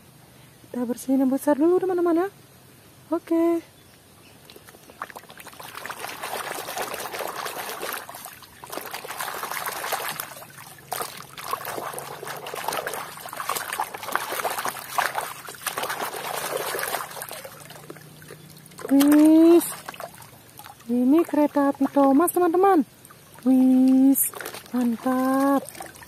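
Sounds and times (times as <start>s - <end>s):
water splashing in plastic basin: 4.5s - 26.0s.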